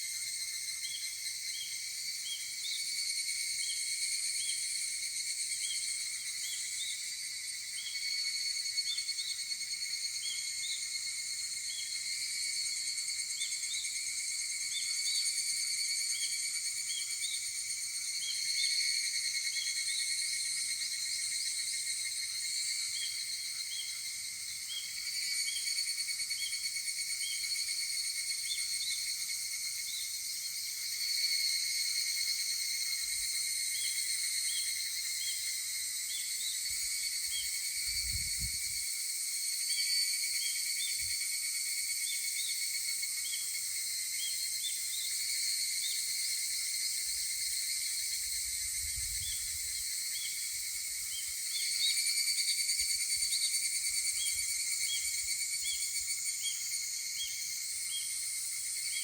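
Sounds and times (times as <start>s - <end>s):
cicadas calling: 0.1s - 59.0s.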